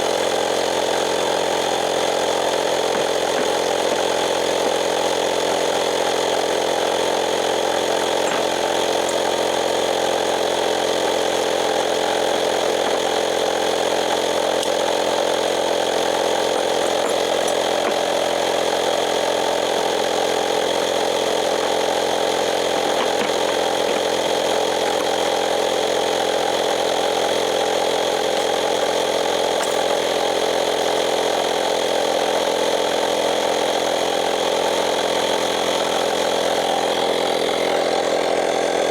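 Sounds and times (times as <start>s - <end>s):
air compressor motor droning: 0.0s - 38.9s.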